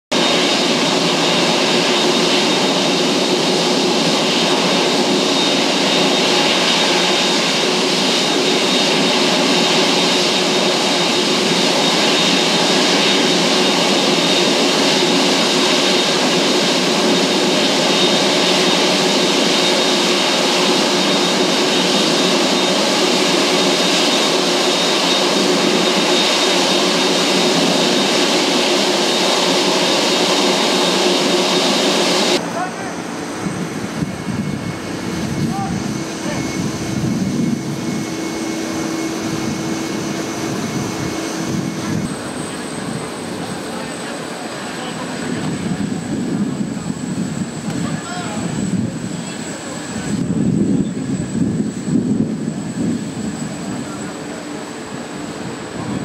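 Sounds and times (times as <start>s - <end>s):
jet engines running: 0.1s - 56.0s.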